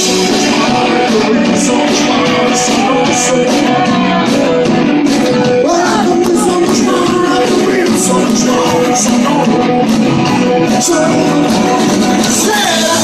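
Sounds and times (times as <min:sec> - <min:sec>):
man singing: 0:00.0 - 0:13.0
rock band playing: 0:00.0 - 0:13.0
strummed acoustic guitar: 0:00.0 - 0:13.0.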